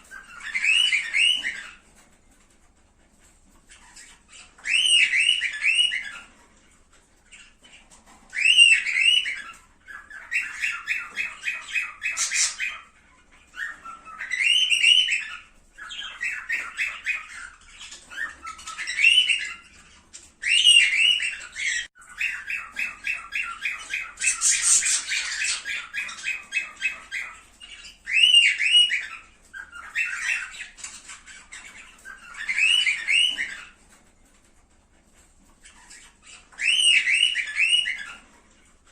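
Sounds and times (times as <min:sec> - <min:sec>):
cockatiels whistling and chattering: 0:00.0 - 0:38.9.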